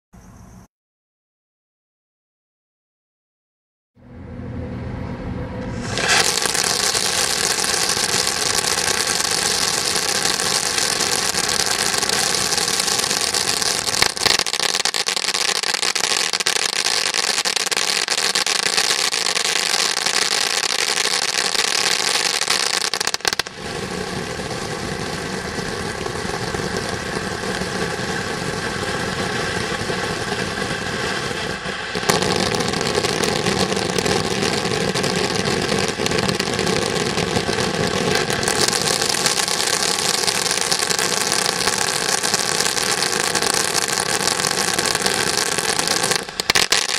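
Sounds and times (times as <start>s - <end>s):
firework fountain hissing sparks: 5.7s - 46.9s.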